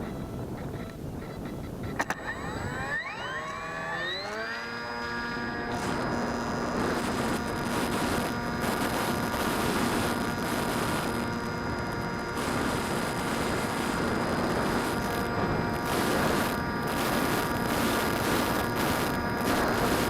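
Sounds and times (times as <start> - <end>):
drone propellers buzzing: 0.0 - 20.0
wind noise: 0.0 - 20.0.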